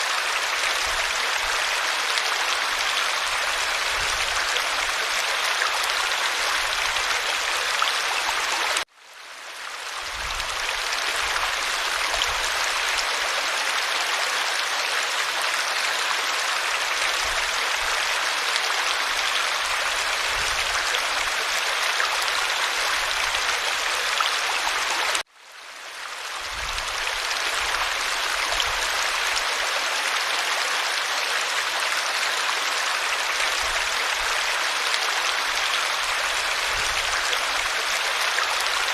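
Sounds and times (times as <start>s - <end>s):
creek water over stones: 0.0s - 38.9s.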